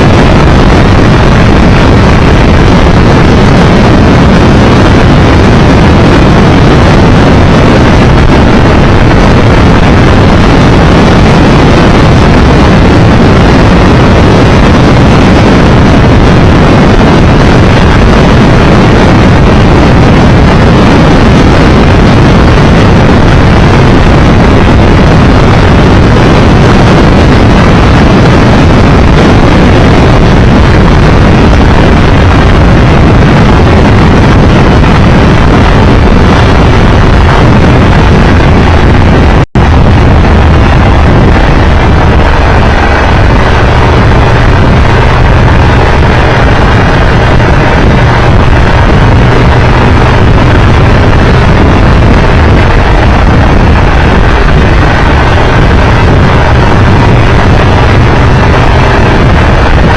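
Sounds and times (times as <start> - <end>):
motorcycle engine hum: 0.0 - 59.9
wind rush from riding: 0.0 - 59.9.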